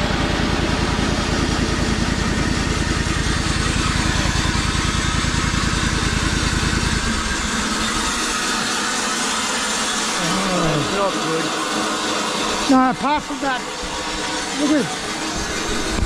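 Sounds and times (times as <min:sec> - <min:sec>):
sawmill engine idling: 0:00.0 - 0:16.0.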